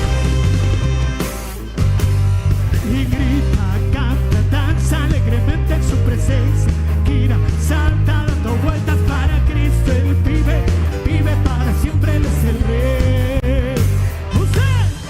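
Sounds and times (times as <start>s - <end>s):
heavy bass line: 0.0s - 15.0s
worship band playing upbeat song: 0.0s - 15.0s.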